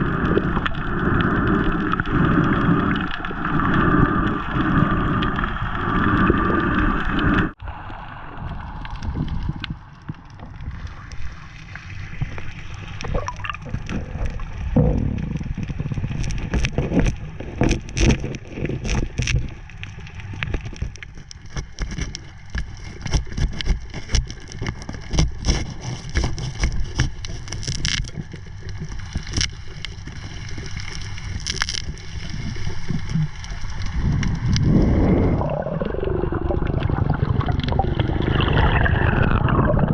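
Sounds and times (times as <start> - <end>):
underwater rumble and gurgle: 0.0 - 39.9.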